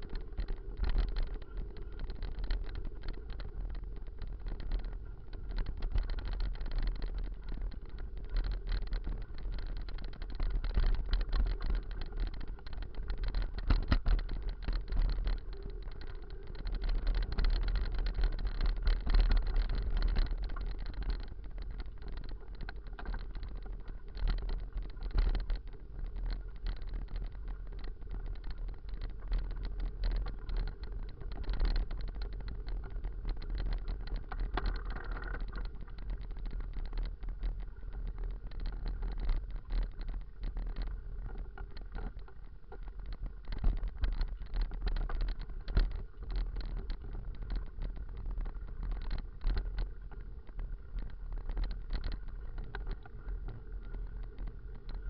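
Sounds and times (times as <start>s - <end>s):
bike rattling over bumps: 0.0s - 55.0s
wind rumbling on microphone: 0.0s - 55.0s.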